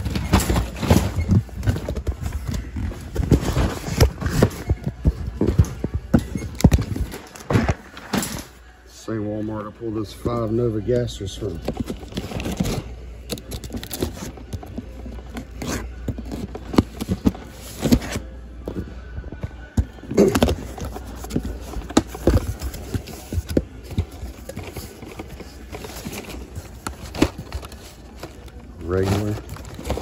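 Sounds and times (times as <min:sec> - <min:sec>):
cardboard scraping and rustling: 0:00.0 - 0:08.0, 0:11.5 - 0:18.2, 0:20.1 - 0:30.0.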